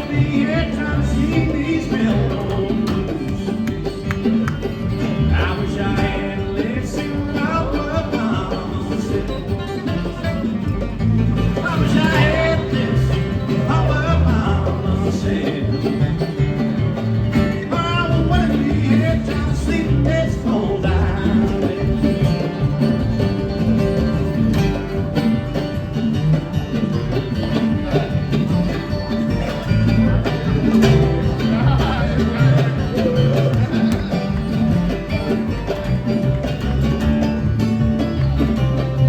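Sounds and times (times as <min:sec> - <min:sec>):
plucked strings: 0:00.0 - 0:39.0
steady bass line: 0:00.0 - 0:39.0.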